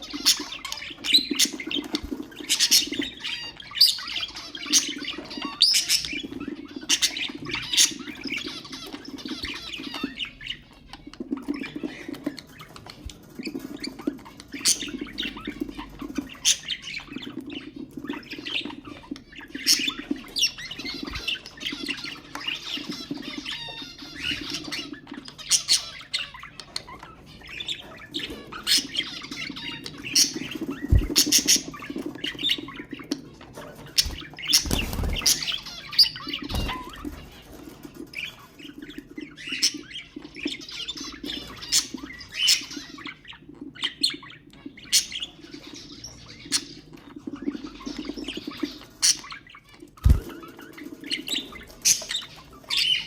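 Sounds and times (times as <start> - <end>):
budgerigars chirping and squawking: 0.0 - 53.0.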